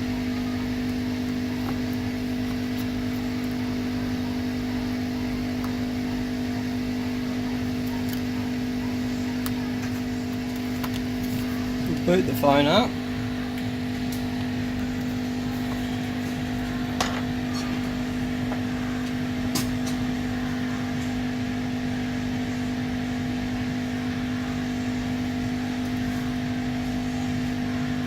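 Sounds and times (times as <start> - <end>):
low equipment hum: 0.0 - 28.0.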